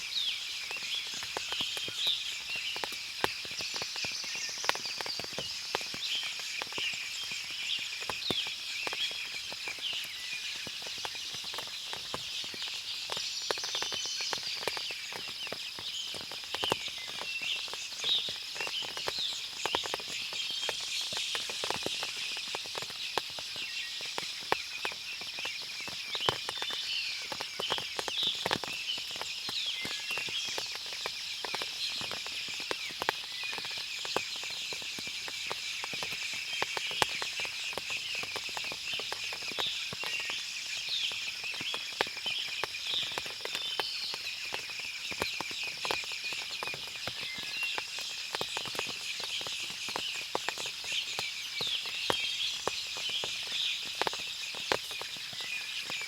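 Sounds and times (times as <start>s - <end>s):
steady high-pitched hiss: 0.0s - 56.0s
birds chirping: 0.1s - 56.0s
water drips tapping: 0.6s - 56.0s.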